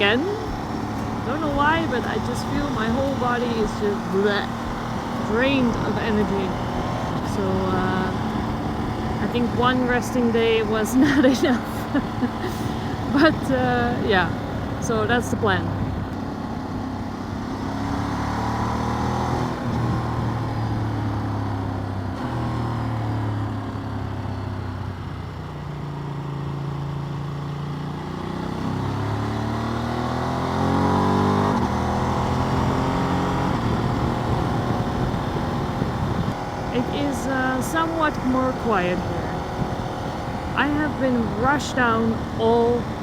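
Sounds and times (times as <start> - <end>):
motorcycle engine accelerating: 0.0 - 43.0
wind and road noise: 0.0 - 43.0.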